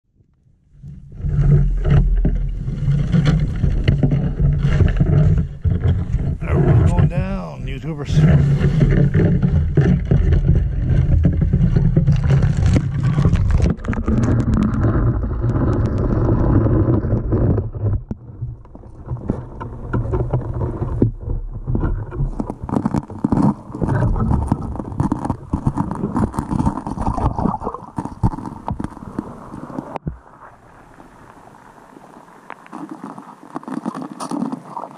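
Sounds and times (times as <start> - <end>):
underwater sloshing: 0.7 - 34.9.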